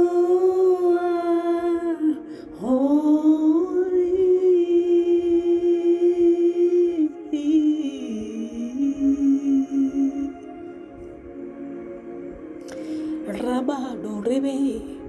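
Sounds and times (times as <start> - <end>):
background music: 0.0 - 15.0
person singing wordless notes: 0.0 - 15.0.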